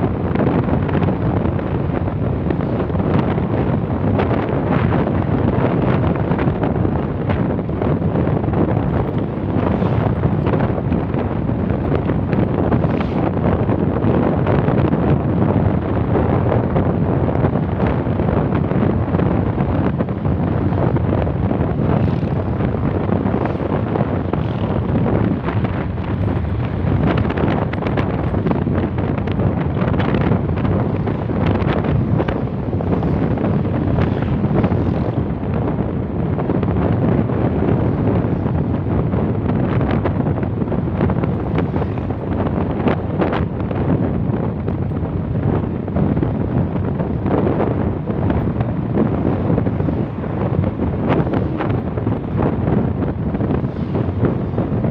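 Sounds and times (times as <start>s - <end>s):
engine and tyre rumble: 0.0s - 54.9s
wind buffeting microphone: 0.0s - 54.9s.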